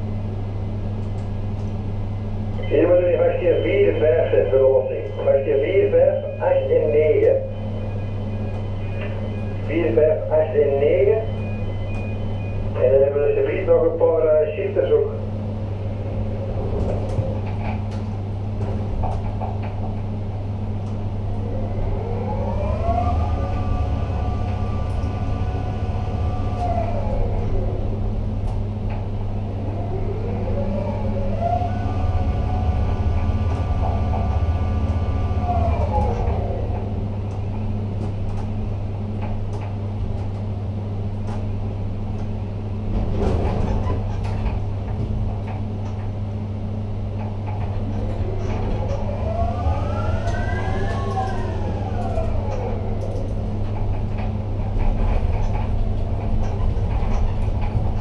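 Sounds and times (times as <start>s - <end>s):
crane electric drives whining: 0.0s - 58.0s.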